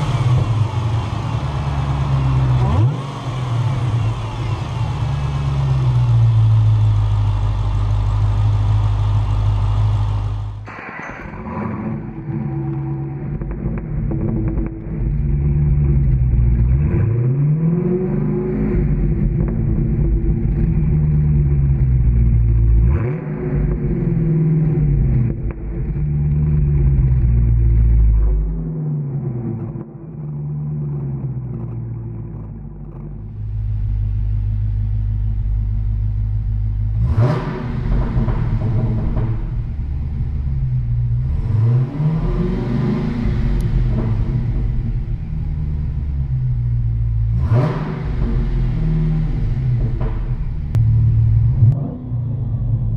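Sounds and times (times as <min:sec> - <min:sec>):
car engine idling: 0:00.0 - 0:52.9
car engine revving: 0:00.0 - 0:52.9.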